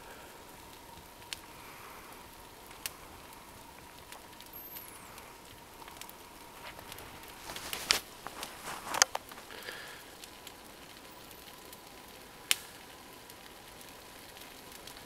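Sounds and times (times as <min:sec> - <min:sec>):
branches burning with pops: 0:00.0 - 0:15.0.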